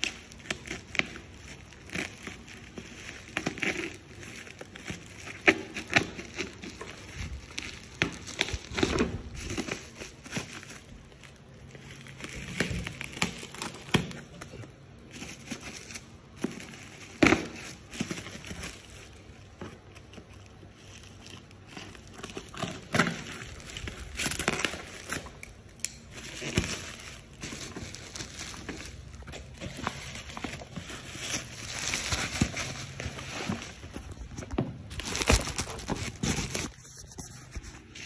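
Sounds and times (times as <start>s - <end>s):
plastic and cardboard crinkling: 0.0s - 38.0s.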